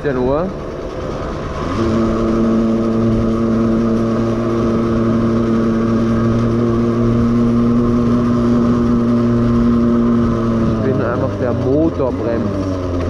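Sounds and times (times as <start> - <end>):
two-stroke moped engine revving: 0.0 - 13.0.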